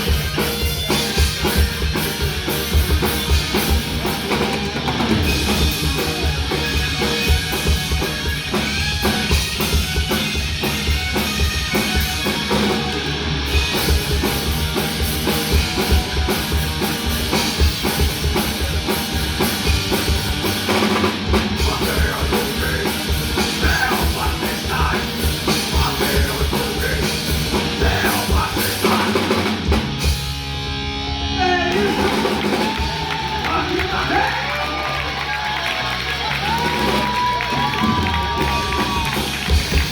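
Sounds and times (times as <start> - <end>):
distorted electric guitar: 0.0 - 34.6
fast drum kit: 0.0 - 39.9
live thrash band playing: 0.0 - 39.9.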